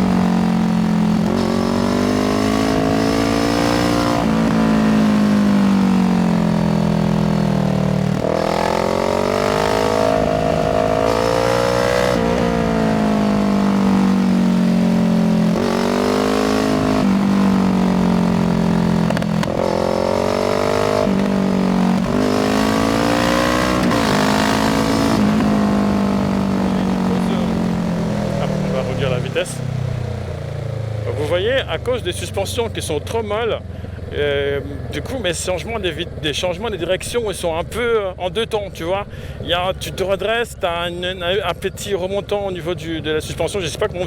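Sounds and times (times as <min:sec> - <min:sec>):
motorcycle engine revving: 0:00.0 - 0:38.4.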